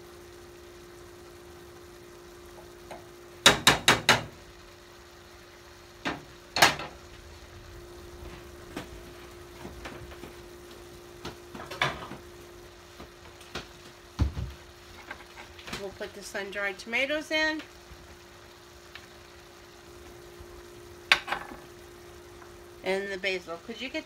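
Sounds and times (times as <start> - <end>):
shrimp sizzling in frying pan: 0.0 - 24.0
steady hum: 0.0 - 24.0.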